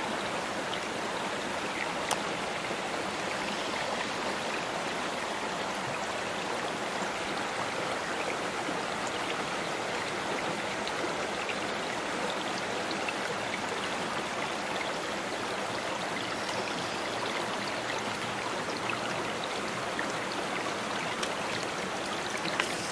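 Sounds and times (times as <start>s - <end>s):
creek running over rocks: 0.0s - 22.9s.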